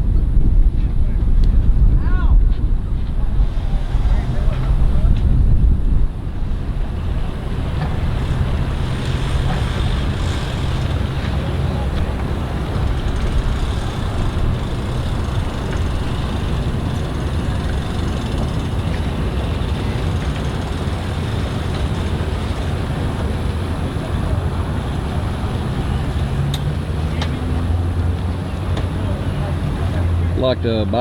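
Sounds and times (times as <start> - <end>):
water noise: 0.0 - 28.2
wind noise: 0.0 - 28.7
engines idling: 2.5 - 31.0.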